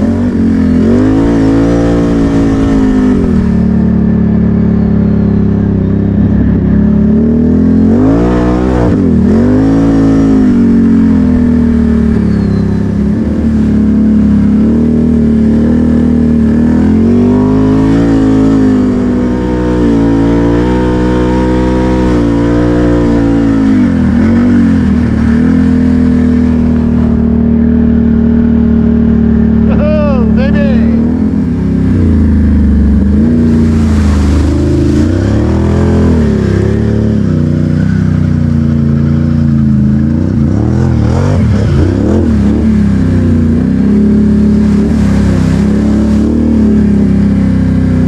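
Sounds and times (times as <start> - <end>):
atv engine revving under load: 0.0 - 48.0.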